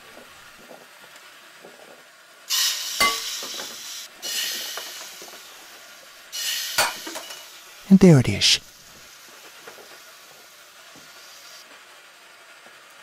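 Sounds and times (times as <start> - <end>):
food sizzling in a hot pan: 0.4 - 7.8, 8.7 - 12.9.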